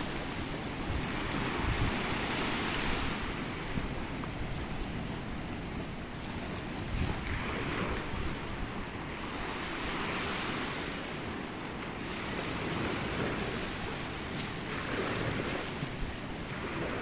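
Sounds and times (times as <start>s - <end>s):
sea surf washing: 0.0s - 17.0s
wind rumble on microphone: 0.0s - 17.0s.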